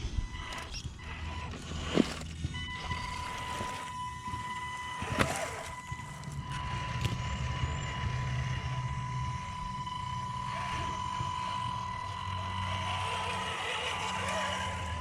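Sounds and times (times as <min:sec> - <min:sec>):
rc crawler motor whine: 0:00.0 - 0:15.0.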